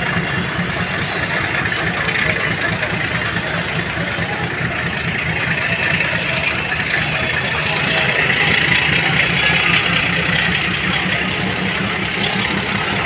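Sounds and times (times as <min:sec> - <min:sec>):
crowd of voices: 0:00.0 - 0:13.0
diesel train engine rumble: 0:00.0 - 0:13.0.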